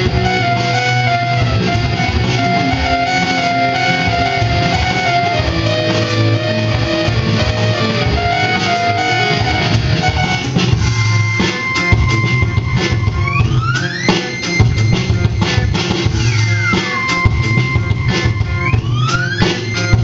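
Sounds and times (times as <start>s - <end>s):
drum kit: 0.0s - 20.0s
electric guitar: 0.0s - 20.0s
high tone sliding in pitch: 0.0s - 20.0s.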